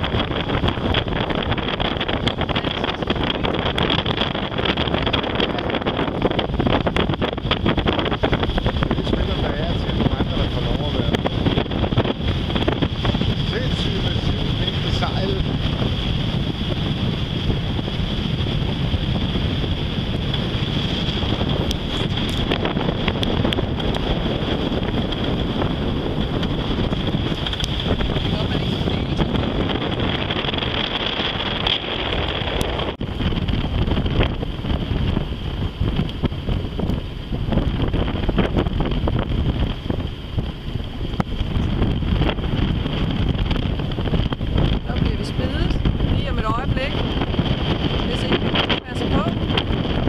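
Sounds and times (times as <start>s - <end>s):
choppy water rushing: 0.0s - 50.0s
wind buffeting microphone: 0.0s - 50.0s.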